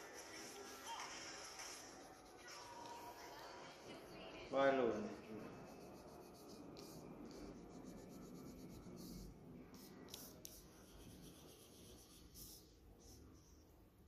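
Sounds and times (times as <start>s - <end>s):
crayon scratching on paper: 0.0s - 4.1s, 5.2s - 13.7s.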